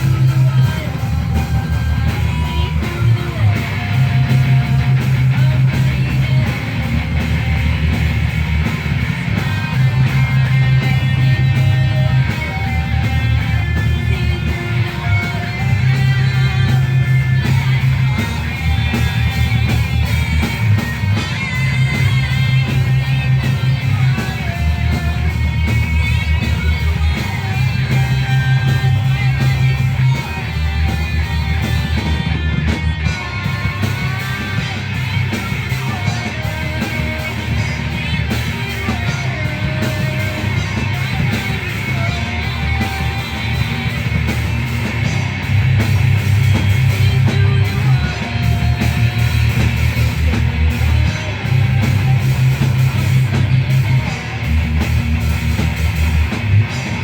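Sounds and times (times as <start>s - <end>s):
bass line: 0.0s - 57.0s
electric guitar: 0.0s - 57.0s
rock band playing: 0.0s - 57.0s.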